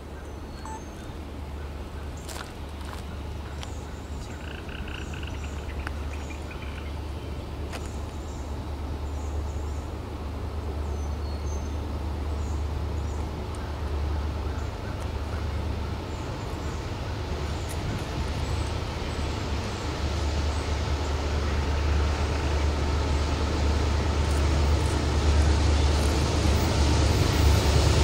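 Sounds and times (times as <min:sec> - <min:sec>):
diesel locomotive engine rumble: 0:00.0 - 0:28.0.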